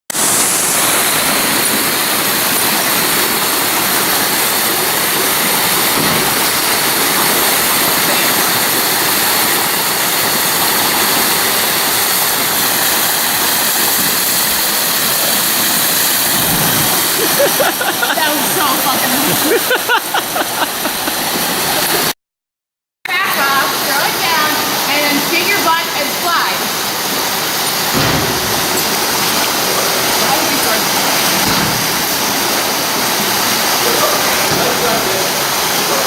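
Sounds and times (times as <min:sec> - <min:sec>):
creek water rushing over rock: 0:00.2 - 0:22.1, 0:23.8 - 0:36.0.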